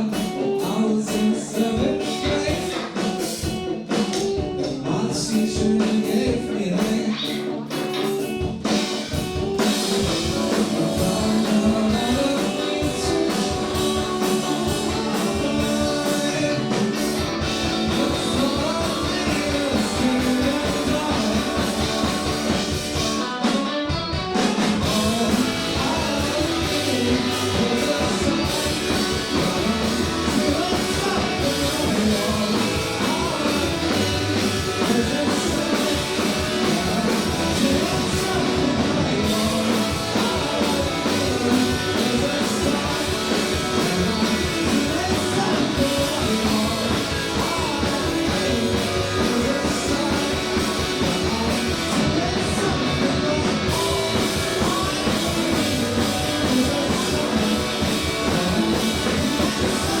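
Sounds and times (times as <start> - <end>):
person singing: 0.0 - 8.8, 9.6 - 60.0
live rock band playing: 0.0 - 60.0.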